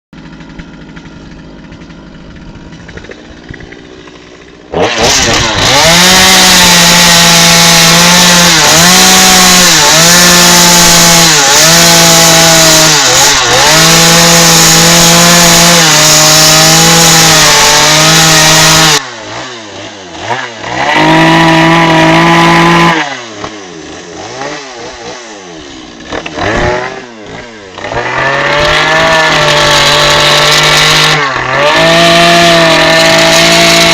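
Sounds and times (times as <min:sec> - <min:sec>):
chainsaw cutting wood: 0:00.2 - 0:33.9.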